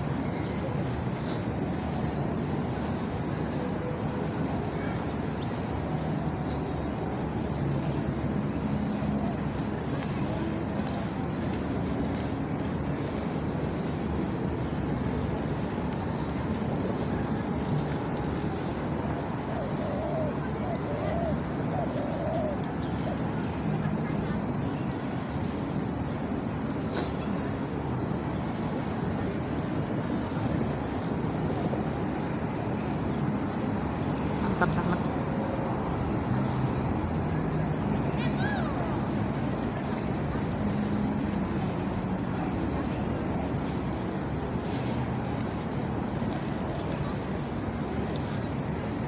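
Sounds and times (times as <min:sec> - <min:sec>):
low city rumble: 0:00.0 - 0:49.0.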